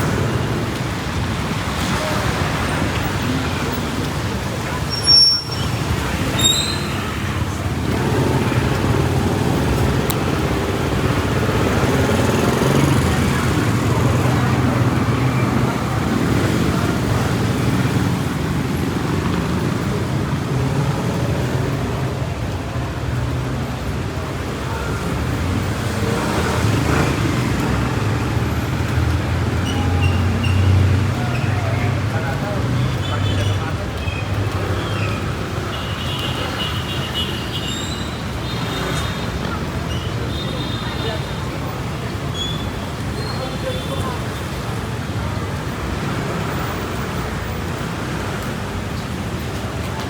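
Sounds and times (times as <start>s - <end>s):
faint voices: 0.0s - 50.0s
vehicle engines running: 0.0s - 50.0s.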